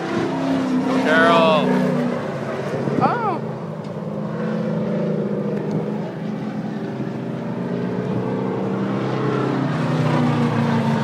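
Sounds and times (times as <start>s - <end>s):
stock car engines droning: 0.0s - 11.0s.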